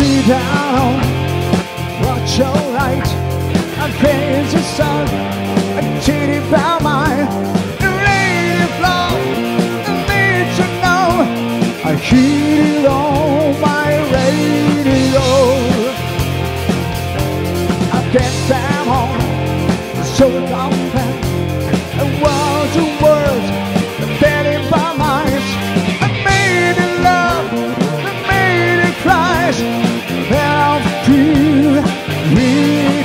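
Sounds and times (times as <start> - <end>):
man singing with vibrato: 0.0 - 1.2, 2.0 - 16.1, 17.8 - 33.0
live rock band playing: 0.0 - 33.0.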